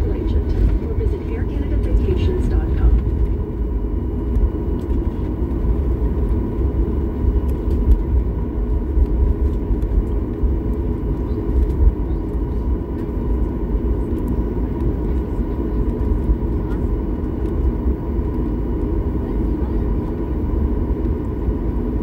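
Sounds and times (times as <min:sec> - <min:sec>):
jet engine low rumble: 0:00.0 - 0:22.0
thin steady whine: 0:00.0 - 0:22.0.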